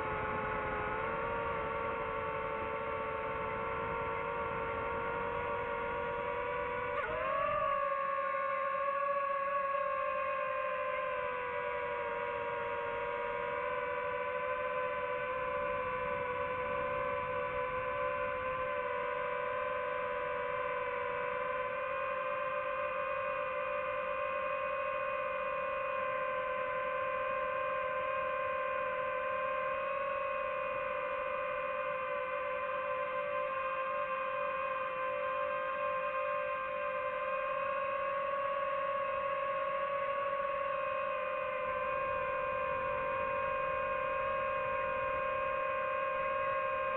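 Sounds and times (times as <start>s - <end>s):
drone propellers whining: 0.0s - 46.9s.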